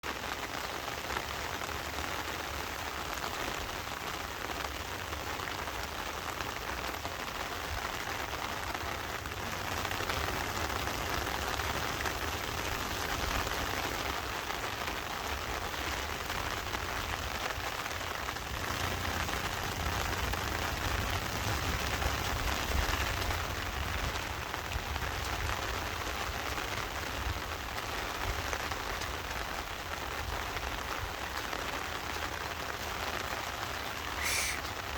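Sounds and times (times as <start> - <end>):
heavy rain hissing: 0.1 - 25.0, 29.3 - 34.9.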